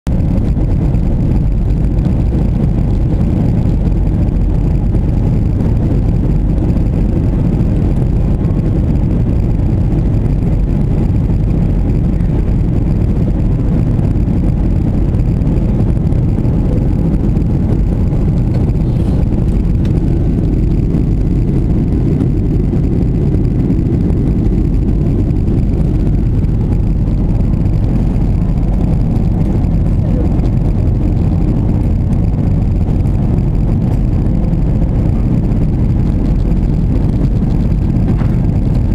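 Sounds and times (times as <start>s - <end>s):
jet airliner cabin noise: 0.1s - 38.9s.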